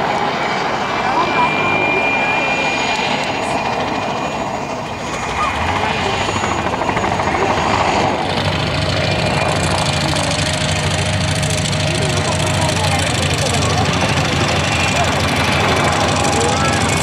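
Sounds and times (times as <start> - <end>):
helicopter rotor and engines: 0.0 - 17.0.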